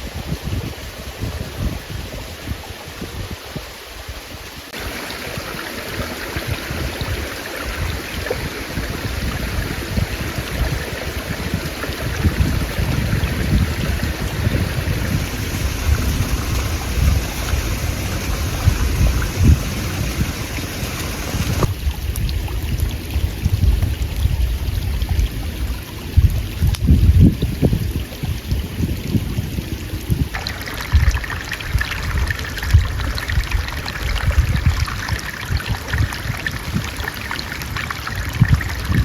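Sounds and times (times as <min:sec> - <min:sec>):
wind blowing in gusts: 0:00.0 - 0:39.0
wind buffeting microphone: 0:00.0 - 0:39.0.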